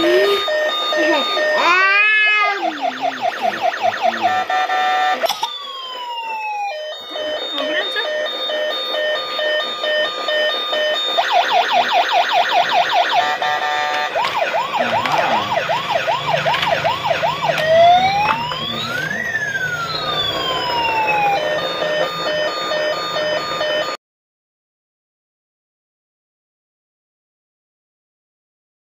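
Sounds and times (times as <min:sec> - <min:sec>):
toy ambulance electronic siren: 0:00.0 - 0:24.0.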